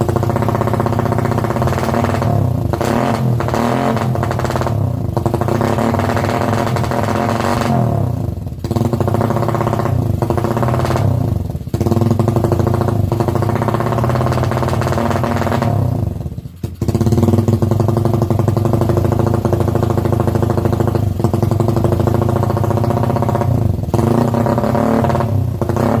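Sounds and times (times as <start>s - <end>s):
motorcycle engine revving loud: 0.0s - 26.0s.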